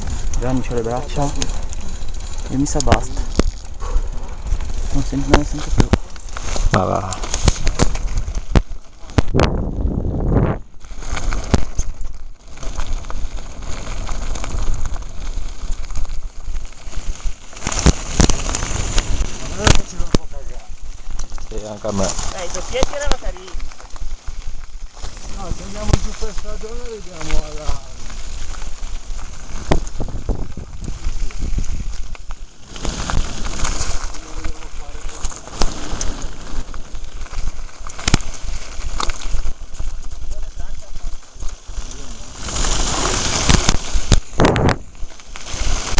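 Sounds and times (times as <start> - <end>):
bike clicks and rattles: 0.0 - 45.9
tyres crunching over loose stones: 0.0 - 45.9
wind rumbling on microphone: 0.0 - 45.9.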